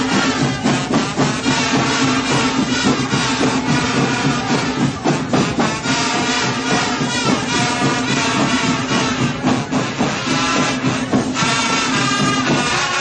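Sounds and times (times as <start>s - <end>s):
driving drum beat: 0.0s - 13.0s
marching band brass: 0.0s - 13.0s.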